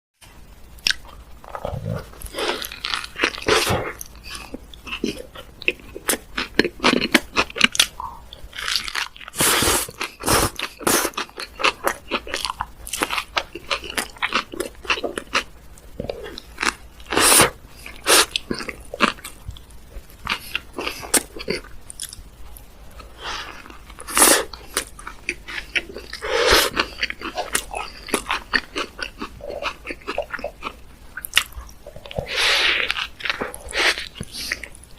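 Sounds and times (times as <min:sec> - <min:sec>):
crunchy chewing and bites: 0:00.8 - 0:34.9.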